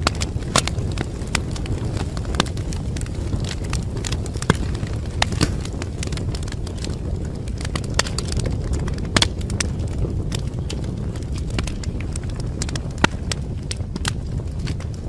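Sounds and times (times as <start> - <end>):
low roar of flames: 0.0 - 15.0
wood fire crackling and popping: 0.0 - 15.0.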